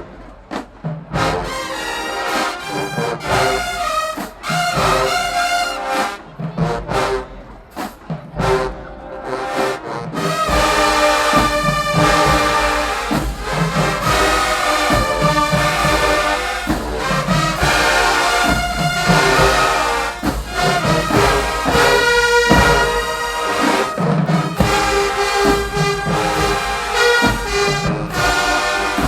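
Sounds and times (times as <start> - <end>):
drums: 0.0 - 29.0
brass section playing chords: 1.1 - 7.3, 8.4 - 29.0.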